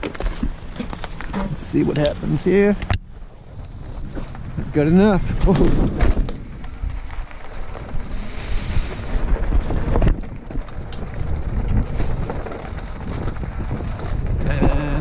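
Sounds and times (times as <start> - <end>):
bike knocks and rattles: 0.0 - 8.1, 8.9 - 15.0
bike rolling over dry leaves: 0.0 - 15.0
wind on microphone: 0.0 - 15.0.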